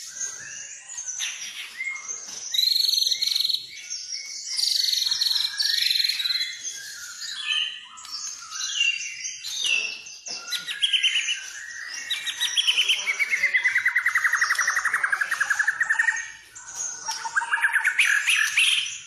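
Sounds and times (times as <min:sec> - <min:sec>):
songbird singing whistled phrases: 0:00.0 - 0:19.0.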